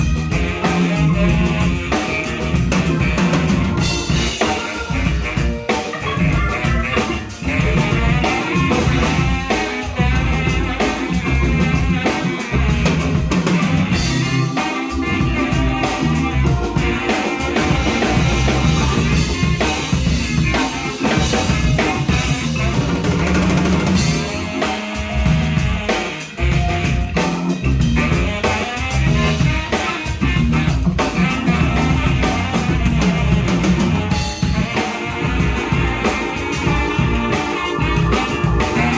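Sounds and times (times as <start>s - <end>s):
drum kit steady beat: 0.0s - 38.9s
soul-jazz band playing: 0.0s - 38.9s.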